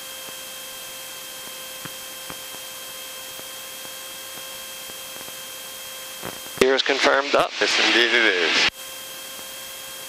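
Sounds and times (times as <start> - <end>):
faint high whine: 0.1 - 10.0.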